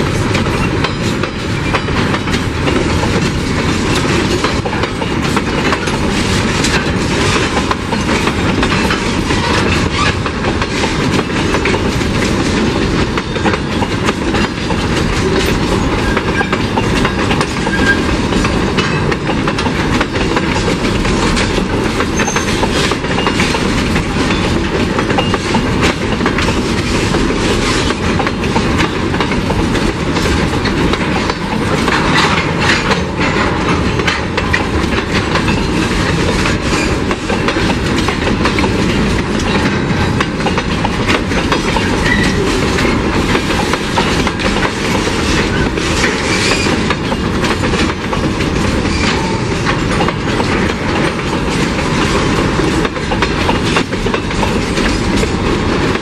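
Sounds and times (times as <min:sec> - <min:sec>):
freight wagon wheels clattering: 0:00.2 - 0:56.0.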